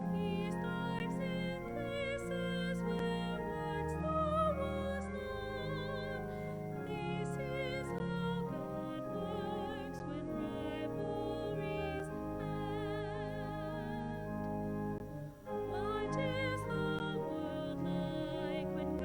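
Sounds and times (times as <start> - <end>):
slow classical-style music: 0.0 - 19.0.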